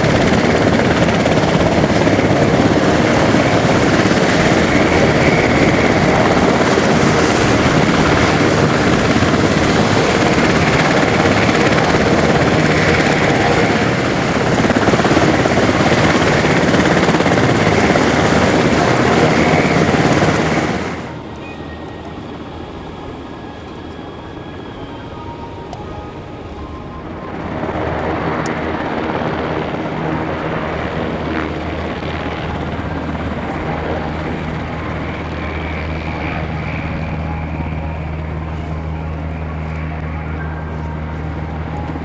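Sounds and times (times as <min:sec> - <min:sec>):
helicopter rotor and turbine: 0:00.0 - 0:42.0.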